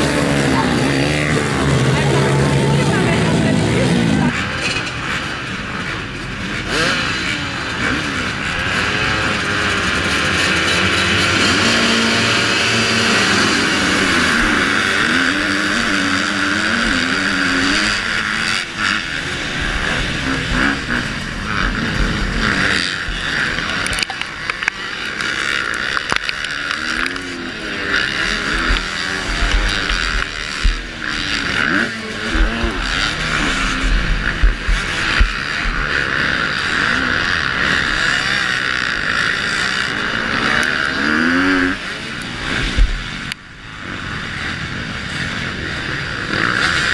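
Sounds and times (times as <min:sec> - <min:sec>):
motocross engines revving: 0:00.0 - 0:46.9
motorbike accelerating hard: 0:00.0 - 0:46.9.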